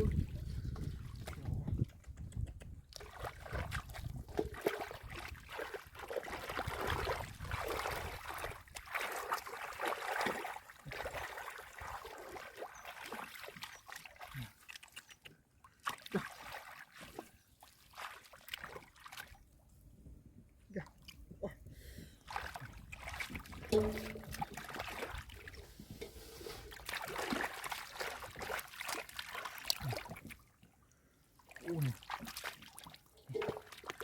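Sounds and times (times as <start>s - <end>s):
shallow water splashing: 2.9s - 15.0s, 15.7s - 19.4s, 22.2s - 34.0s.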